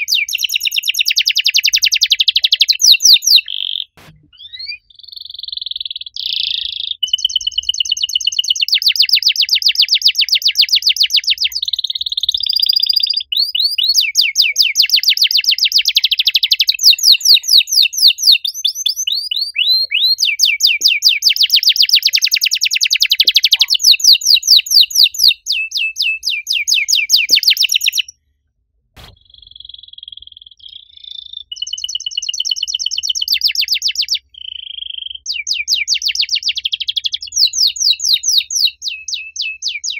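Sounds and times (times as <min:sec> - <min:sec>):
canary singing trills: 0:00.0 - 0:28.2, 0:29.0 - 0:39.9.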